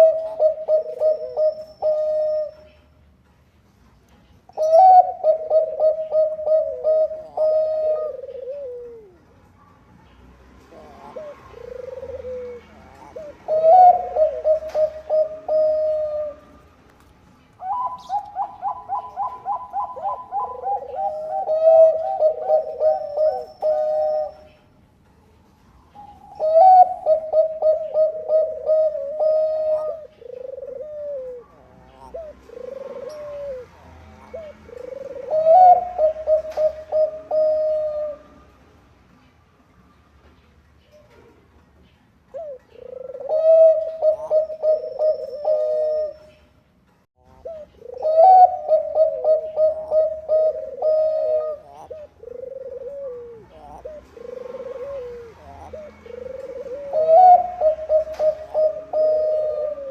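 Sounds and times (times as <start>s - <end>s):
dove cooing: 0.0s - 2.9s, 4.5s - 9.4s, 10.6s - 16.7s, 17.5s - 24.7s, 25.9s - 38.5s, 42.3s - 46.6s, 47.2s - 59.9s.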